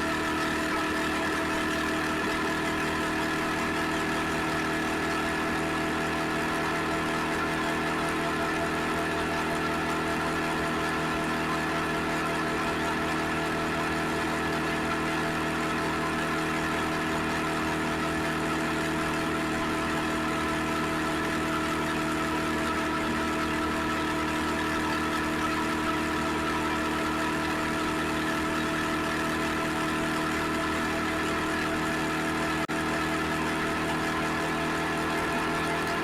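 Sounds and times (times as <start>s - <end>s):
motorcycle engine running steadily: 0.0s - 36.0s.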